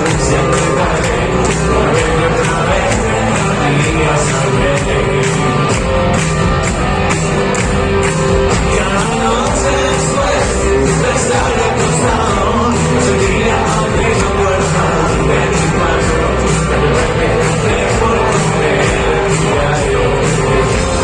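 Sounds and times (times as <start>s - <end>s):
person singing: 0.0s - 6.8s, 7.5s - 21.0s
rock band playing live: 0.0s - 21.0s.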